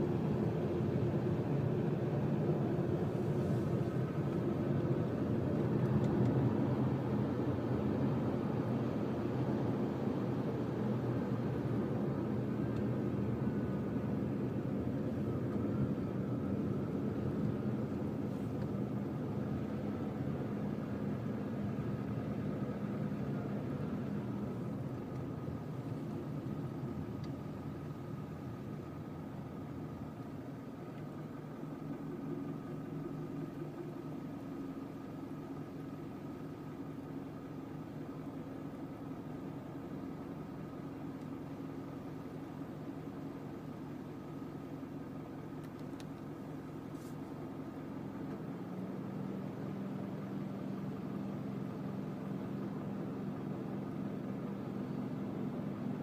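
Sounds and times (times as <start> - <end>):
engine drone: 0.0 - 56.0
road noise: 0.0 - 56.0.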